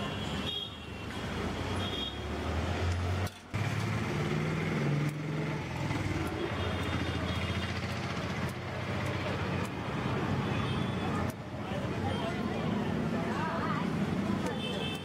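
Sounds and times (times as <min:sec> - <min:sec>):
vehicle engines running: 0:02.4 - 0:14.5.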